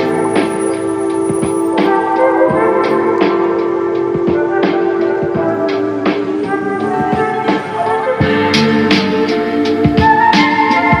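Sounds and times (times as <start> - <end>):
percussion beat: 0.0 - 11.0.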